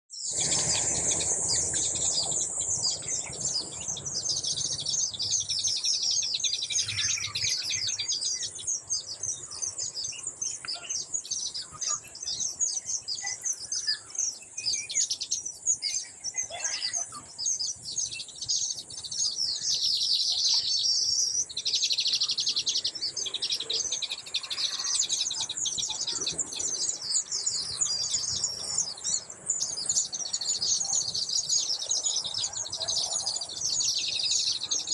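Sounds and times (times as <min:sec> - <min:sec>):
birds chirping in chorus: 0:00.1 - 0:34.9.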